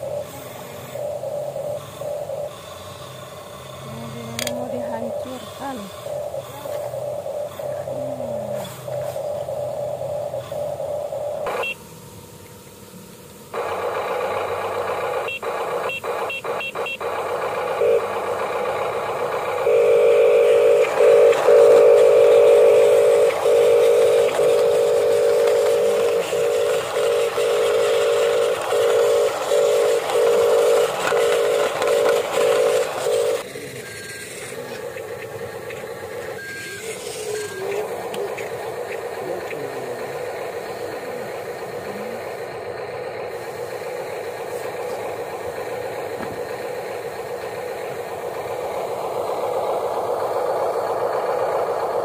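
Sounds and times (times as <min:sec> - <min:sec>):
small electric motors whining: 0:00.0 - 0:52.0.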